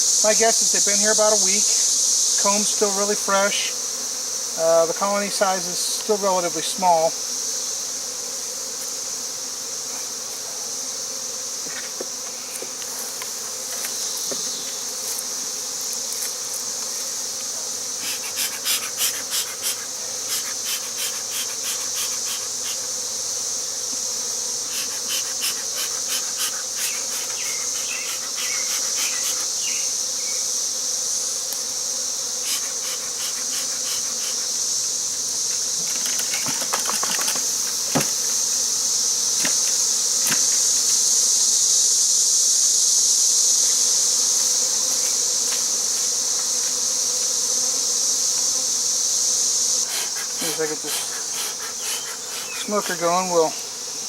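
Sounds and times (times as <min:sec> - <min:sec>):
bees buzzing: 0:00.0 - 0:54.0
high-pitched insect drone: 0:00.0 - 0:54.0.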